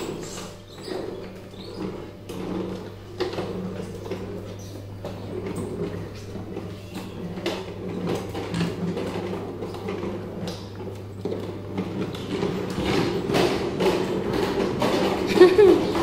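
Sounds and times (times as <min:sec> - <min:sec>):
plastic wheels rattling on tiles: 0:00.0 - 0:16.0.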